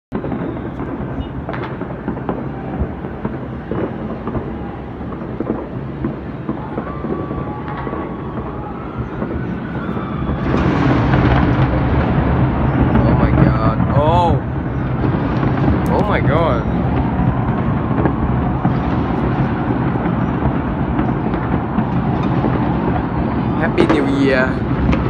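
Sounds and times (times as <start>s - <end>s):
distant fireworks pops and bangs: 0.1s - 25.0s
low rumble: 0.8s - 25.0s.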